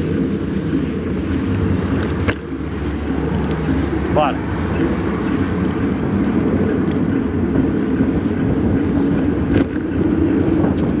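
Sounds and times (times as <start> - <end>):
bike tyres on asphalt: 0.0 - 11.0
wind buffeting microphone: 0.0 - 11.0.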